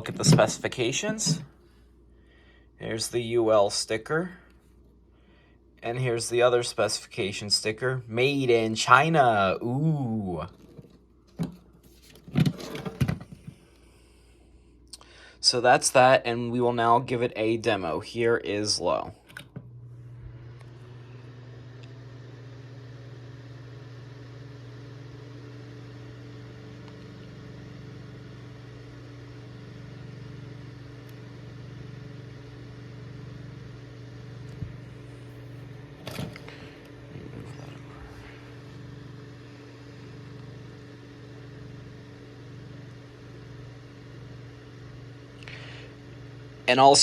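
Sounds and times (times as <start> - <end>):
table fan humming with air rush: 0.0 - 47.0.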